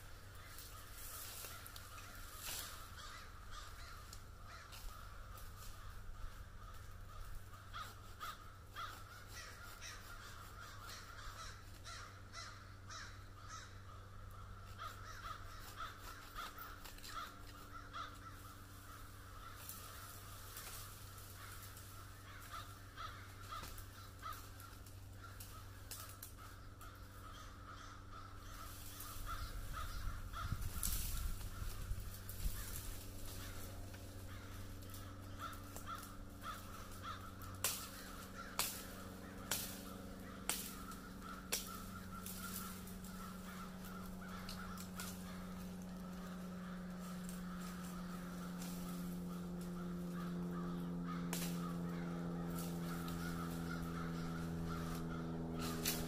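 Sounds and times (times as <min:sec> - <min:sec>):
crows cawing: 0:00.0 - 0:56.0
twigs and branches rustling: 0:00.0 - 0:56.0.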